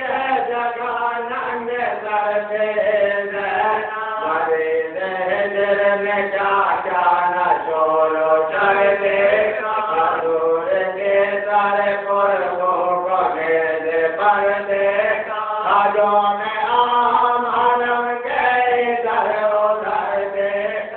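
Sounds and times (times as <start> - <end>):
person chanting: 0.0 - 20.9.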